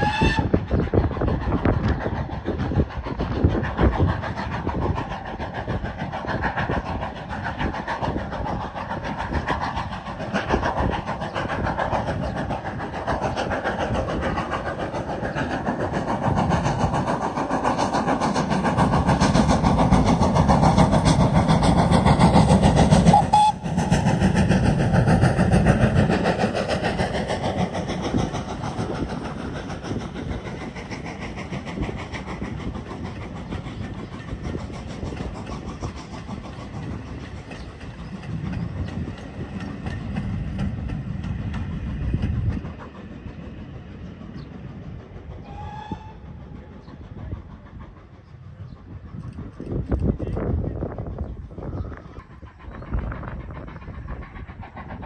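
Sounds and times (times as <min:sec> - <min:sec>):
train running past: 0:00.0 - 0:55.0.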